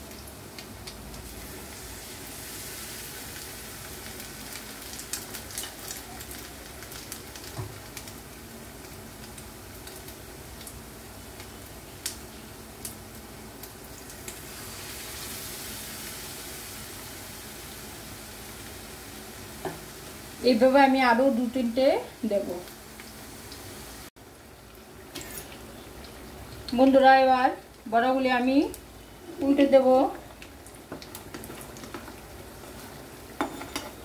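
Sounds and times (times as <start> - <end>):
fritters sizzling in hot oil: 0.0 - 34.0.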